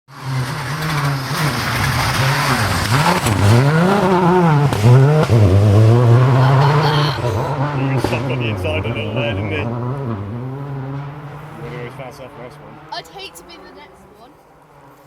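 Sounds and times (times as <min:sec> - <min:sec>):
rally car engine revving: 0:00.1 - 0:15.0.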